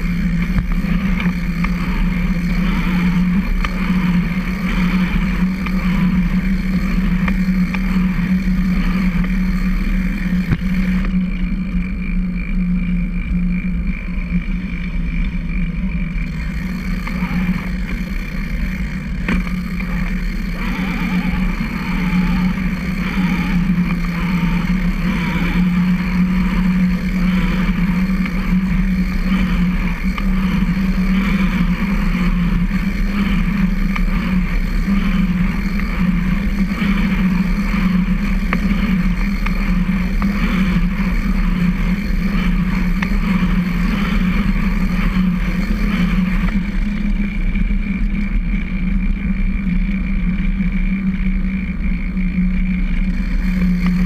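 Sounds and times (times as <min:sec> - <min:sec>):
faint pulse: 0:00.0 - 0:50.5
tyres and drivetrain rumble: 0:00.0 - 0:54.0.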